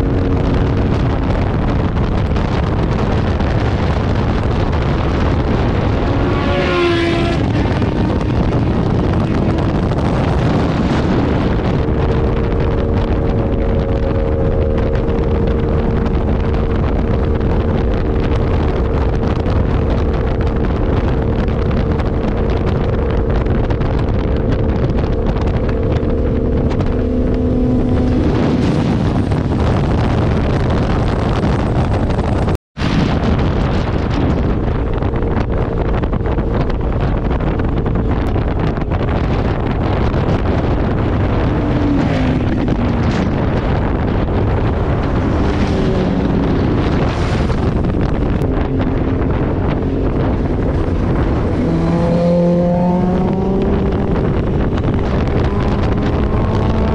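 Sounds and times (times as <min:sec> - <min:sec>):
motorcycle engine: 0:00.0 - 0:56.9
wind noise on microphone: 0:00.0 - 0:56.9.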